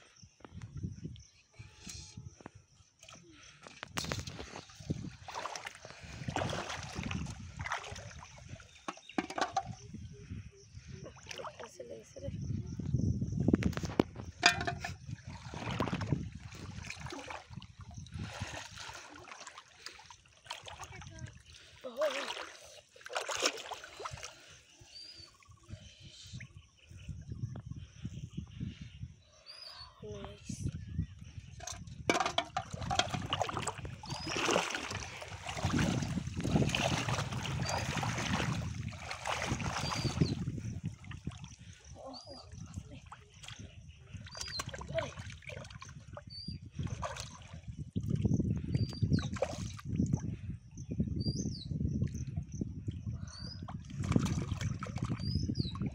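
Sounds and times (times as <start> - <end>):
water sloshing and trickling: 2.3 - 12.5, 13.6 - 26.0, 30.0 - 50.5, 52.0 - 55.9.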